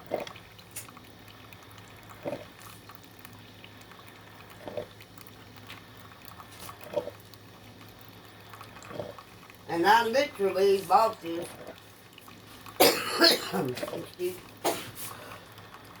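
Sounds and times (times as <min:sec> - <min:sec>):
coffee maker gurgling: 0:00.0 - 0:16.0
faint steady hum: 0:00.0 - 0:16.0.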